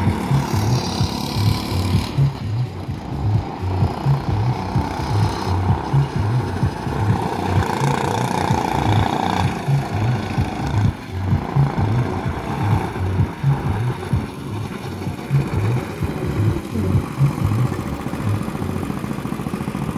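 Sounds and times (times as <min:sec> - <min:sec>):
go-kart engines chugging and revving: 0:00.0 - 0:19.9.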